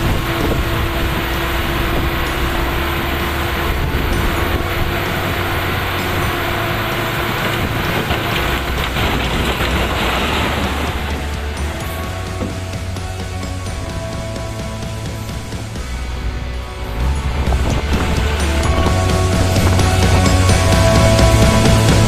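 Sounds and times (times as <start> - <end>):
diesel machinery rumbling: 0.0 - 22.0
steady whine: 0.0 - 22.0.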